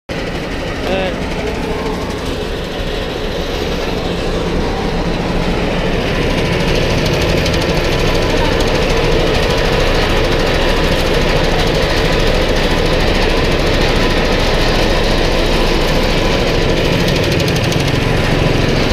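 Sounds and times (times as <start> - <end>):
small engine running: 0.1 - 18.9.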